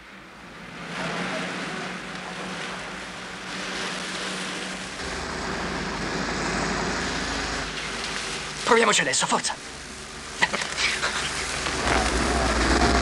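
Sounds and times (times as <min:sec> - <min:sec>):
bus engine hum: 0:00.0 - 0:13.0
deep engine rumble: 0:00.0 - 0:13.0.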